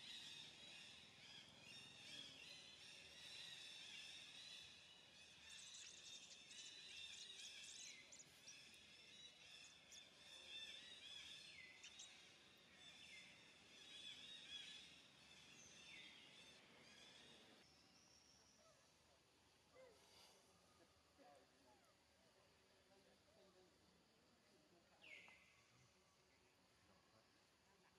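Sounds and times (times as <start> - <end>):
birds and insects chirping: 0.0 - 27.9.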